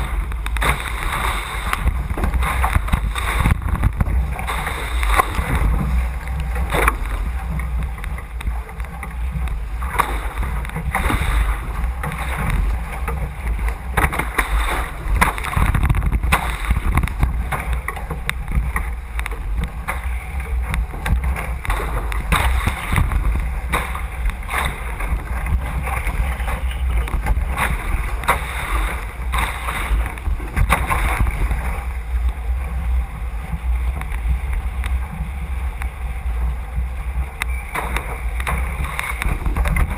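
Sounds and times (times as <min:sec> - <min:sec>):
water rushing along hull: 0:00.0 - 0:39.9
wind buffeting microphone: 0:00.0 - 0:39.9.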